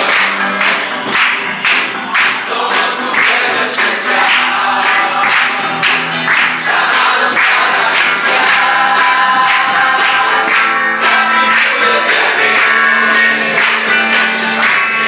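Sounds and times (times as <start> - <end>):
band playing worship song: 0.0 - 15.0
voices singing together: 2.1 - 15.0.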